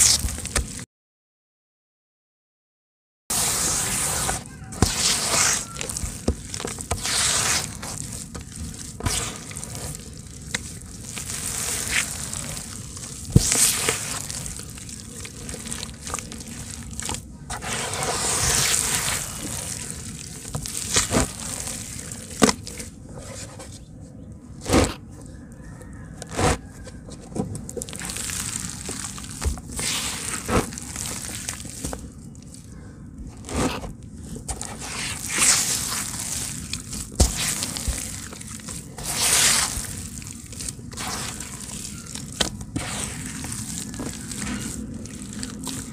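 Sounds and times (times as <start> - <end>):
hands squelching wet mud: 0.0 - 0.8, 3.3 - 45.9.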